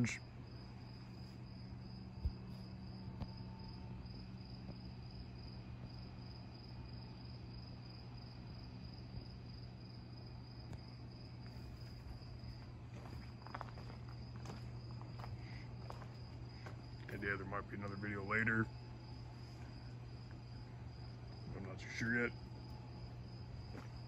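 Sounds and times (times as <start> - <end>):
crickets chirping: 0.0 - 24.0
low steady hum: 0.0 - 24.0.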